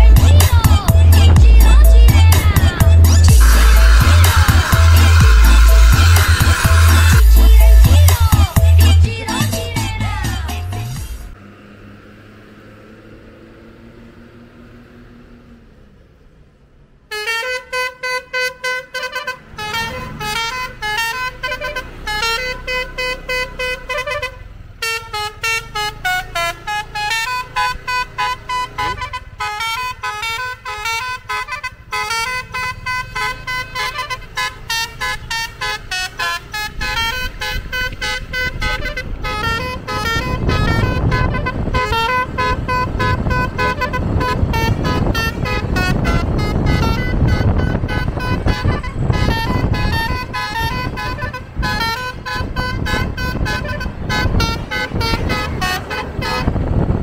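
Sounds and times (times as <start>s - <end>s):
bus engine rumble: 0.0s - 57.0s
bus horn playing a tune: 2.4s - 9.9s, 17.1s - 57.0s.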